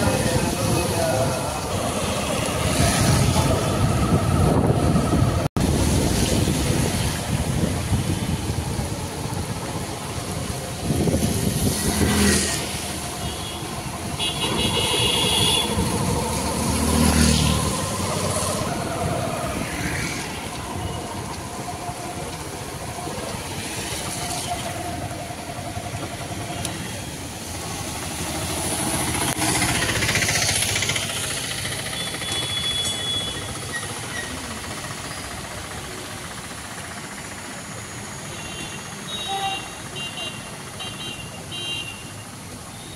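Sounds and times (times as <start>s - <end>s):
motorcycle and scooter engines: 0.0s - 42.9s
water splashing from wheels: 0.0s - 42.9s.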